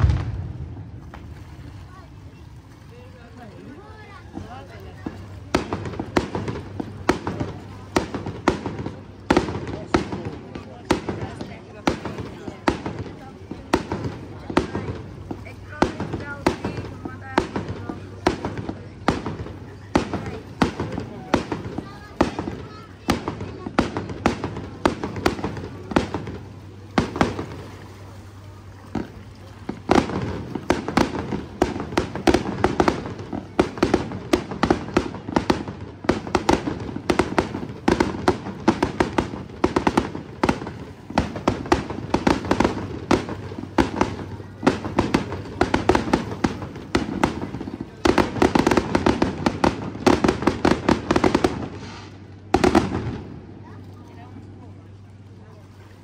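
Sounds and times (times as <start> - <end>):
fireworks bangs and crackles: 0.0 - 2.4, 3.2 - 55.7.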